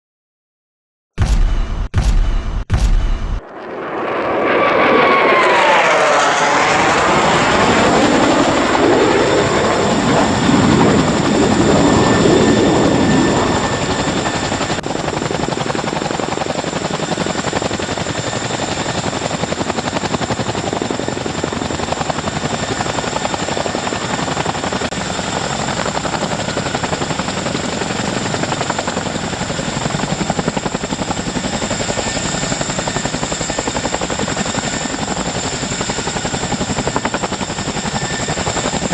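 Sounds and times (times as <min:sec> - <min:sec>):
helicopter rotors running: 0:02.2 - 0:38.9.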